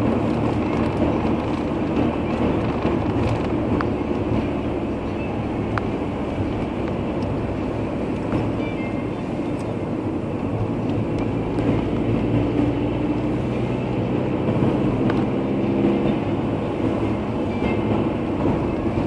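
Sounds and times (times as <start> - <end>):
car engine and tyre rumble: 0.0 - 19.0
faint engine hum: 0.0 - 19.0.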